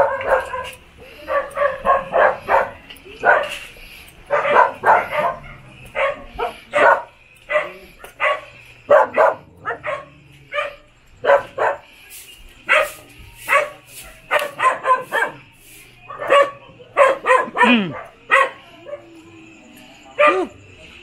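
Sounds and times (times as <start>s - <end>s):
dog barking: 0.0s - 3.7s, 4.3s - 11.9s, 12.7s - 19.1s, 20.2s - 20.6s.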